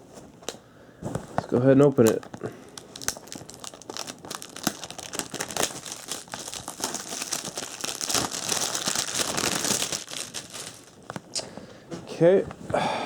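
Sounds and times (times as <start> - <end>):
plastic wrap crinkling: 0.4 - 11.3.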